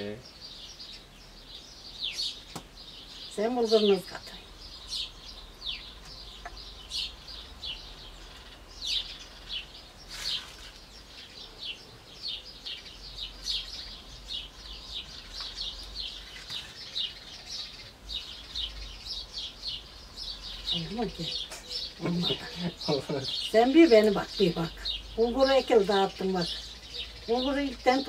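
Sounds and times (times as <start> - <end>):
small songbirds chirping: 0.0 - 28.0.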